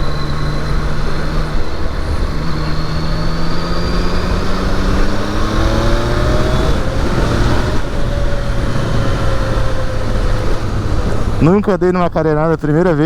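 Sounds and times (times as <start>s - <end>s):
motorcycle engine accelerating: 0.0s - 12.0s
wind and road noise: 0.0s - 13.0s.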